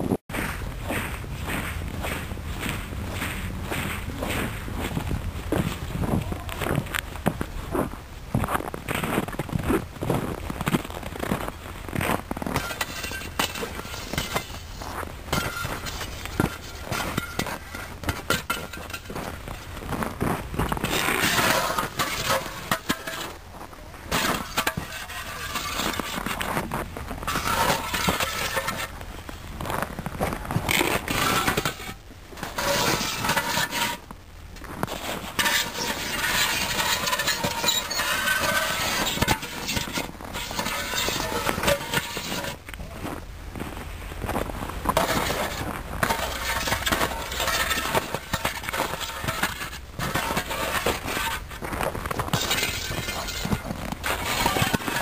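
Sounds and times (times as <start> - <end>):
footsteps crunching on icy snow: 0.3 - 55.0.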